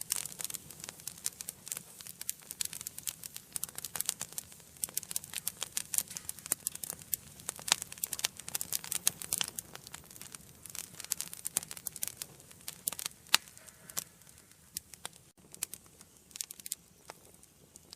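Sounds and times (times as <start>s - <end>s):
fire popping and snapping: 0.0s - 17.9s
low rumble of flames: 0.0s - 17.9s.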